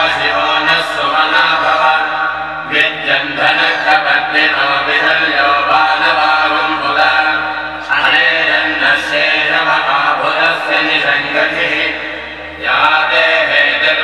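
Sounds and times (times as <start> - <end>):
voices chanting a mantra: 0.0 - 14.0.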